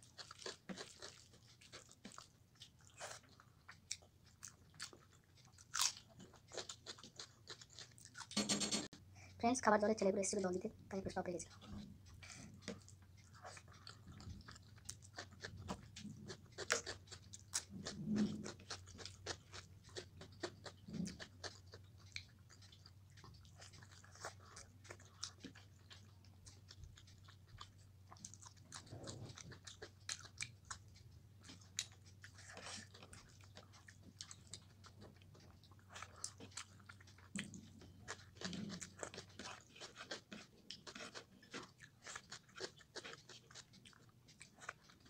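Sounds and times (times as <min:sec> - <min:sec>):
person chewing: 0:00.0 - 0:09.1, 0:10.8 - 0:45.0.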